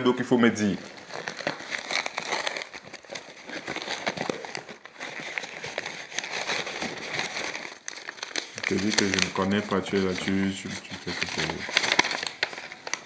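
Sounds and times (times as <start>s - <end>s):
wrapping paper rustling and crinkling: 0.5s - 13.0s.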